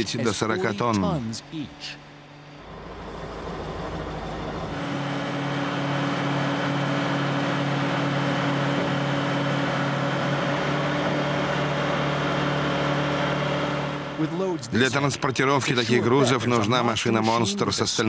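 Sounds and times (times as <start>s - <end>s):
slab carrier engine hum: 0.0s - 18.0s.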